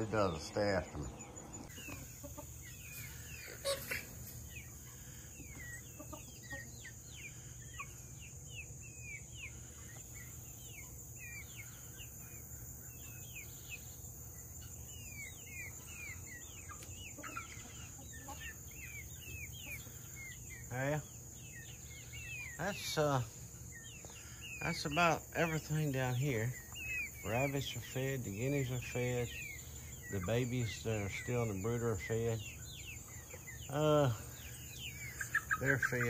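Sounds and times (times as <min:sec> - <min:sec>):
chicks cheeping and clucking: 0:00.0 - 0:36.0.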